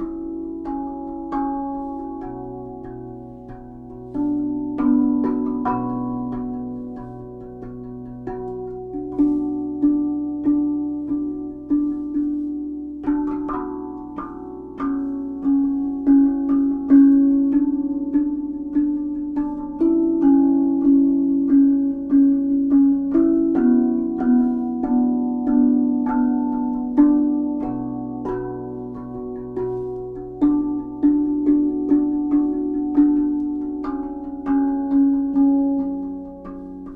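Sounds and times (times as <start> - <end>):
steel tongue drum notes: 0.0 - 36.9.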